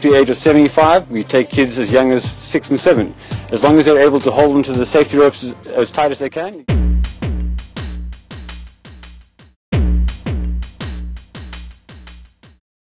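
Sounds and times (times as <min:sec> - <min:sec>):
electronic music with kick drums: 0:00.0 - 0:05.2, 0:06.7 - 0:12.6.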